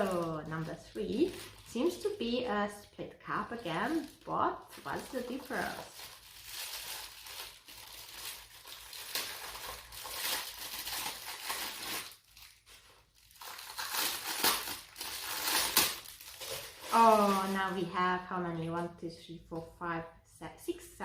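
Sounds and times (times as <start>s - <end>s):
plastic packaging crinkling: 0.0s - 2.5s, 3.3s - 18.0s.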